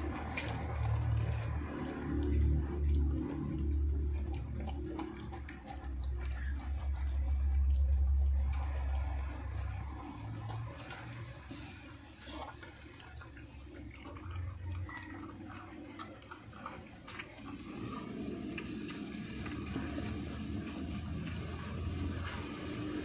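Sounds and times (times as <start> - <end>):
dog licking puppies: 0.0 - 23.0
steady low hum: 0.0 - 23.0.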